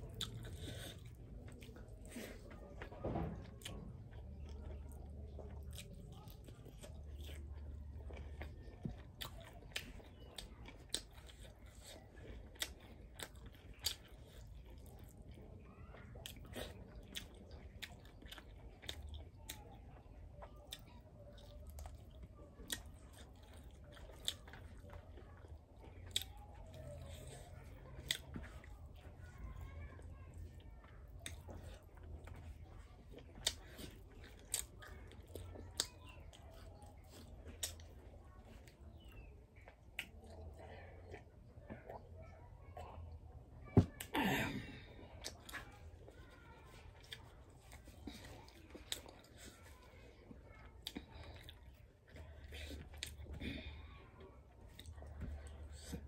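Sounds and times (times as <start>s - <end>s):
person chewing crunchy food: 0.0s - 42.0s, 44.8s - 53.8s.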